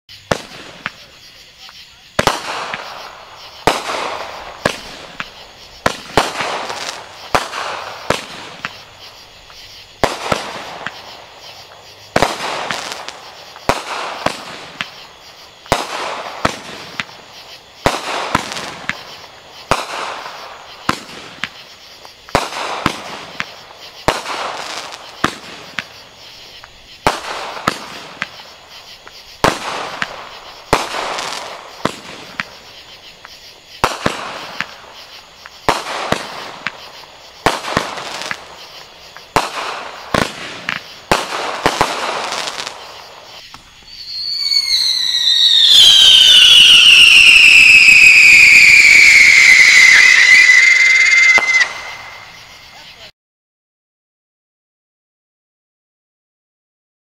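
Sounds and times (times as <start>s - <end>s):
firework bangs: 0.1s - 53.1s
firework hiss: 0.1s - 53.1s.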